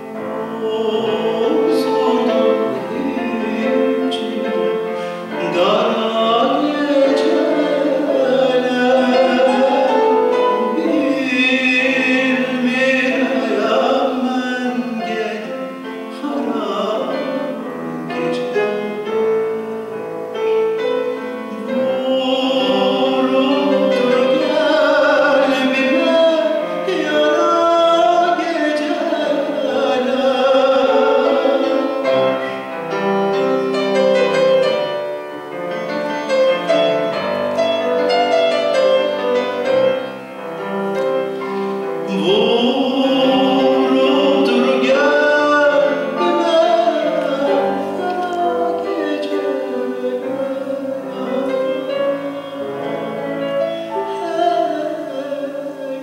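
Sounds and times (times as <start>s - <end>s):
grand piano: 0.0s - 56.0s
man singing with vibrato: 0.0s - 56.0s.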